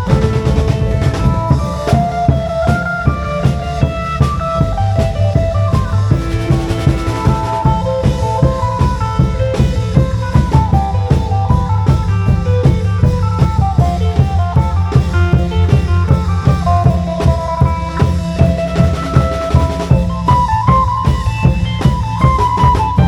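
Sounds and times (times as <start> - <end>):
long drum beat: 0.0 - 23.0.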